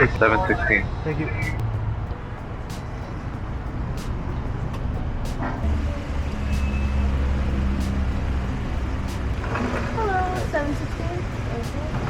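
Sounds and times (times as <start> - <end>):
steady low hum: 0.0 - 12.0
car engine running: 0.7 - 12.0.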